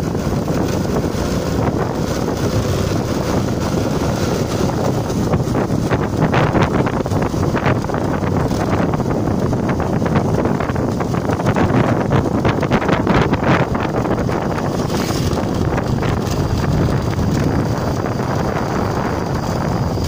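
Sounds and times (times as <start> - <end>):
vehicle running noise: 0.0 - 20.0
wind buffeting microphone: 0.0 - 20.0.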